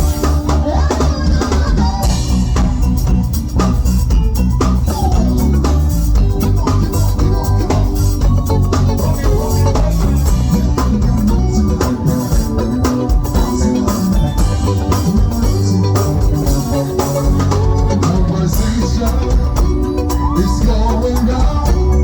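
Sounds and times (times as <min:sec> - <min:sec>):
instrumental pop band music: 0:00.0 - 0:22.0.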